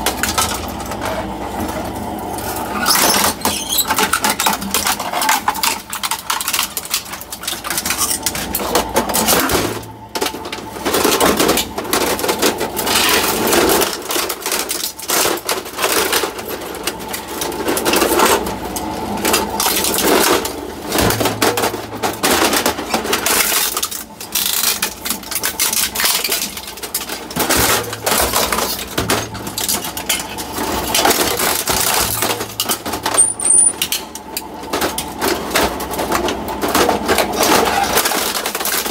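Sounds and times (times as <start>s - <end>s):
shredder crunching plastic: 0.0s - 38.9s.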